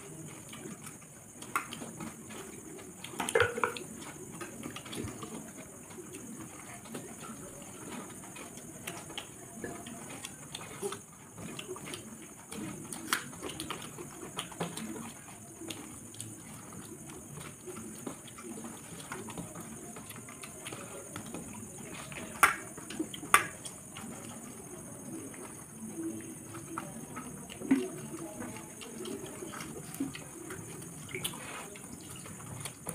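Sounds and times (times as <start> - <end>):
food squelching by hand: 0.0 - 32.9
wet chewing: 0.0 - 32.9.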